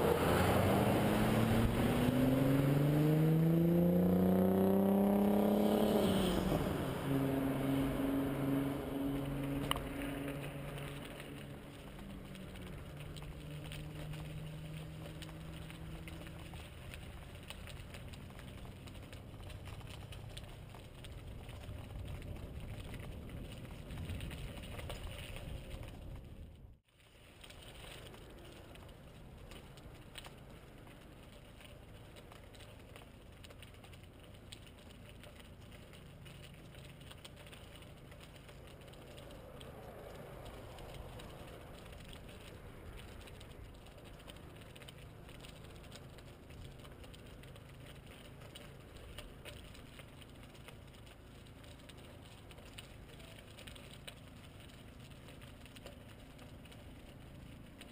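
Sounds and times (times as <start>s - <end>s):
bicycle tyres rumbling: 0.0s - 57.9s
wind: 0.0s - 57.9s.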